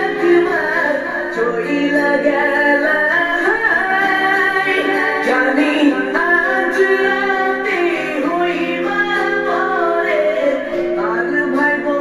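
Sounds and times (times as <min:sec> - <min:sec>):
instrumental backing music: 0:00.0 - 0:12.0
woman singing: 0:00.0 - 0:12.0.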